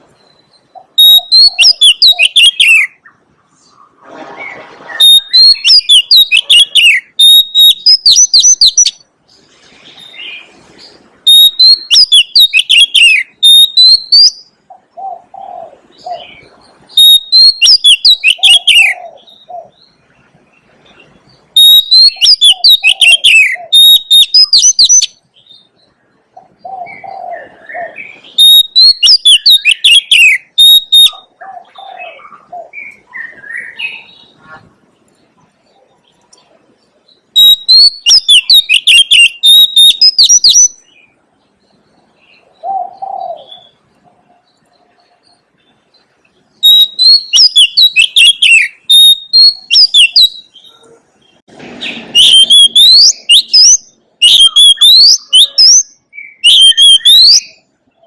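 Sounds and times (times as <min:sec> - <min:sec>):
bird whistled song: 0:00.0 - 0:03.8, 0:04.4 - 0:09.1, 0:10.0 - 0:20.0, 0:20.8 - 0:34.5, 0:37.2 - 0:41.2, 0:44.6 - 0:50.8, 0:51.8 - 0:58.0.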